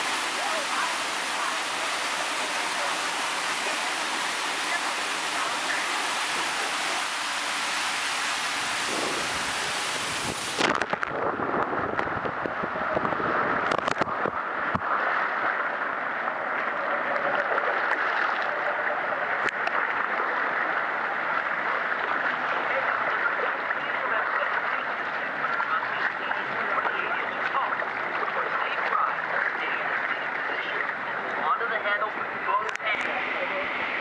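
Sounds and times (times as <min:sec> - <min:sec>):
inner tube sliding through water slide: 0:00.0 - 0:34.0
rushing water: 0:00.0 - 0:34.0
water splashing: 0:00.0 - 0:34.0.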